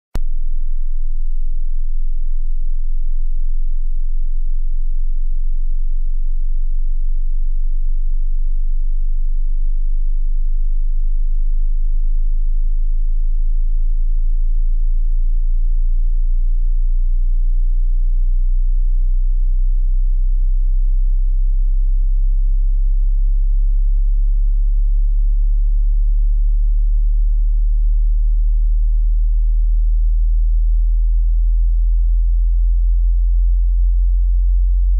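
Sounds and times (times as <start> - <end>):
low-pitched pure tone: 0.2 - 34.9.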